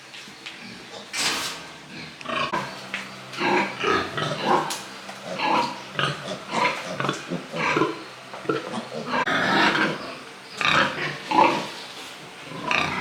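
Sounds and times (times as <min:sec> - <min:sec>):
pigs grunting: 0:00.6 - 0:13.0.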